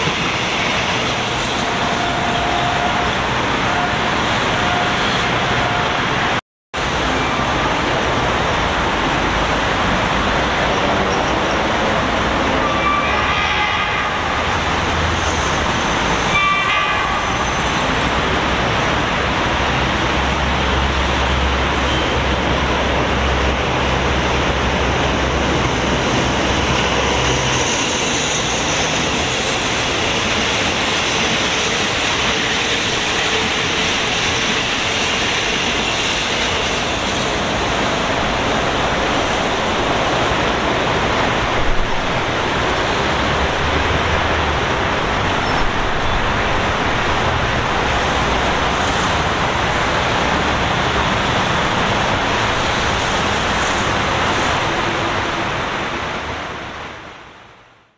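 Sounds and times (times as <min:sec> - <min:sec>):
train rushing past: 0:00.0 - 0:57.9.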